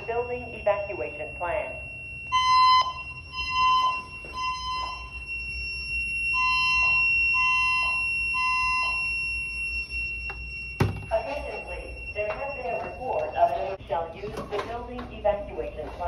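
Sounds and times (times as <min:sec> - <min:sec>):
steady high-pitched tone: 0:00.0 - 0:13.8
fire alarm beeps: 0:00.0 - 0:13.9.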